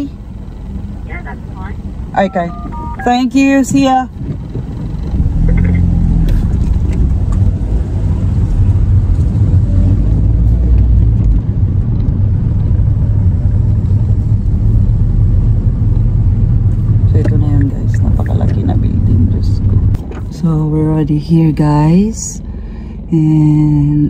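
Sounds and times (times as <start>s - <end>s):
car engine rumble inside cabin: 0.0s - 24.0s.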